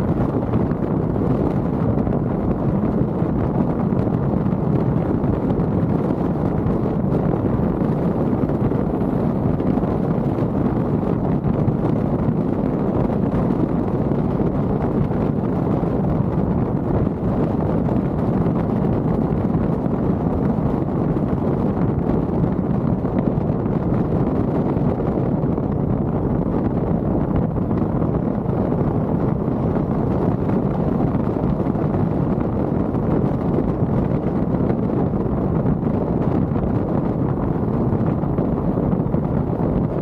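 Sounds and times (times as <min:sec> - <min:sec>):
car wind and road noise: 0:00.0 - 0:40.0.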